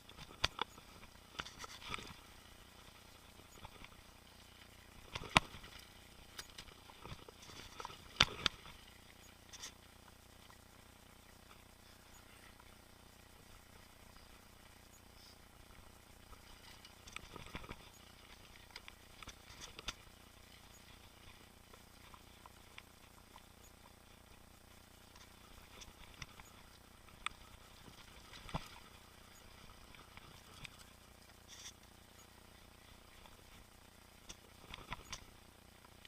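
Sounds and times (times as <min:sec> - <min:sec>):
low steady hiss: 0:00.0 - 0:36.0.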